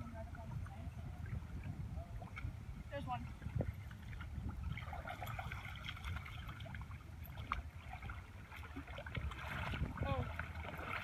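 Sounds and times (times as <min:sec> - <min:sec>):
water lapping around waders: 0:00.0 - 0:11.0.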